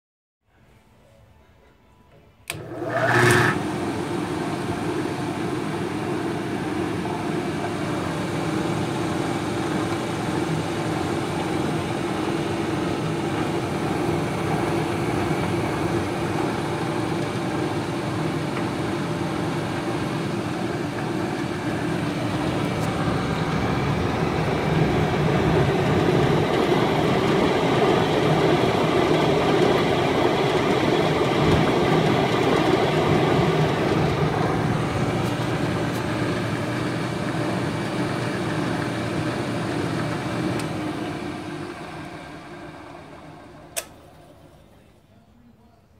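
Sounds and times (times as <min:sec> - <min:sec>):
exhaust fan whoosh and hum: 0:02.4 - 0:44.7.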